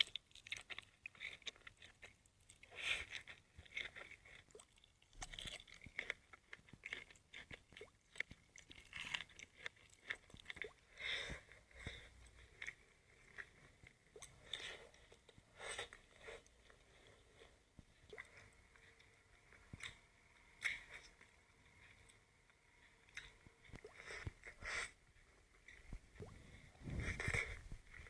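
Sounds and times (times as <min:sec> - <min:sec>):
food chewing and crunching: 0:00.0 - 0:28.0.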